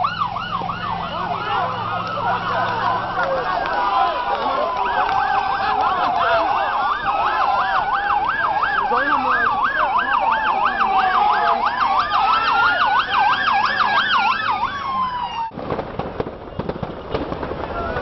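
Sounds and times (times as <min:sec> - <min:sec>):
siren fast yelp: 0:00.0 - 0:15.5
siren slow wail: 0:00.0 - 0:15.6.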